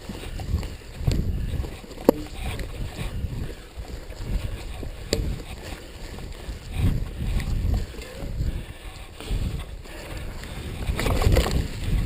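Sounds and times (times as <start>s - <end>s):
bike tyres on rough ground: 0.0s - 12.0s
wind on microphone: 0.0s - 12.0s.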